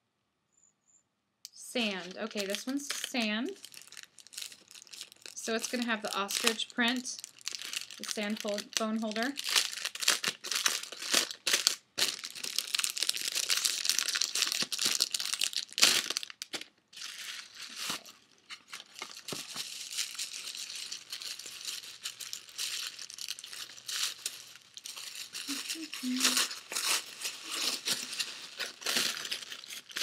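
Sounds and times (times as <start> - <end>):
packaging crinkling and rustling: 1.8 - 30.0.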